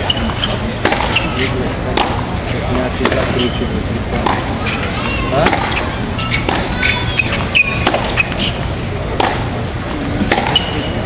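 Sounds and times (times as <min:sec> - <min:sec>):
tennis balls struck by rackets: 0:00.0 - 0:02.3, 0:02.9 - 0:11.0
spectators chattering: 0:00.0 - 0:11.0.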